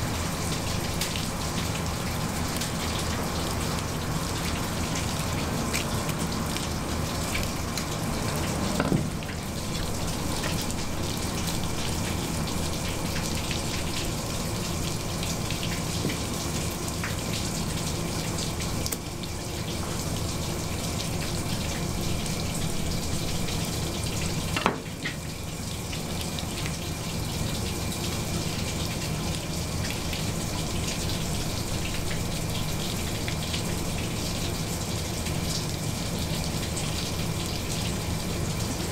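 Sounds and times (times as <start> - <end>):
water running from a tap: 0.0 - 38.9.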